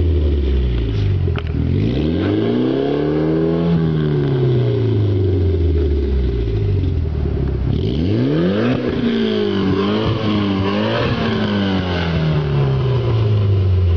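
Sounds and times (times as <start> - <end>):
car engine idling and revving: 0.0 - 13.9.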